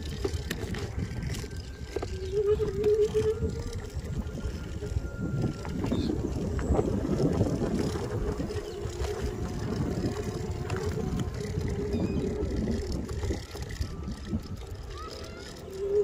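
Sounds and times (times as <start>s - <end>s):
faint steady hum: 0.0s - 16.0s
scooter rumbling on dirt track: 0.0s - 16.0s.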